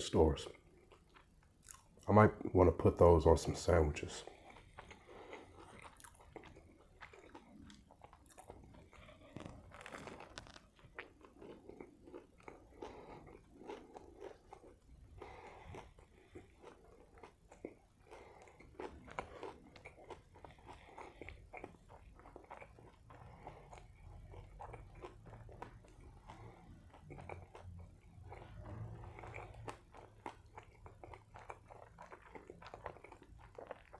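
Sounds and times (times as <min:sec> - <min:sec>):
chewing food: 0:00.0 - 0:33.9.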